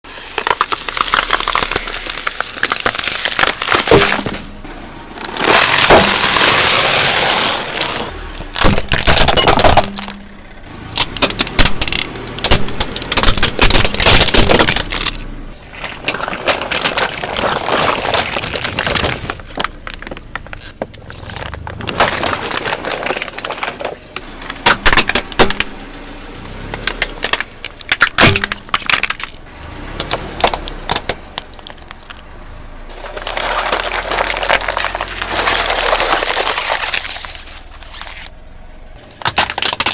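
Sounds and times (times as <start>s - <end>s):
objects crunching under car tyres: 0.0s - 39.9s.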